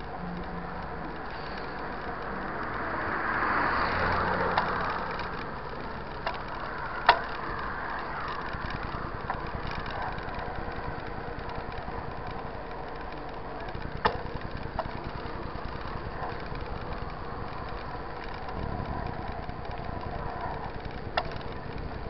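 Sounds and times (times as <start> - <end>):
bike clicks and knocks: 0.0 - 22.0
quick regular ticking: 0.0 - 22.0
wind and tyre noise: 0.0 - 22.0.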